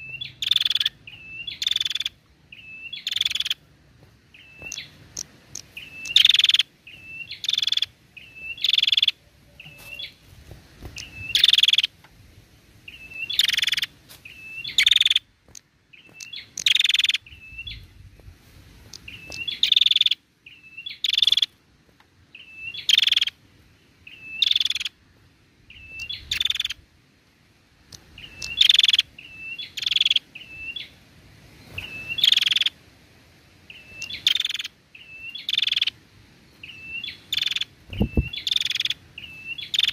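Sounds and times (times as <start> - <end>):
bird chirping and buzzing: 0.0 - 12.0, 12.8 - 18.2, 18.8 - 21.6, 22.3 - 25.0, 25.6 - 26.8, 27.8 - 32.8, 33.6 - 39.9.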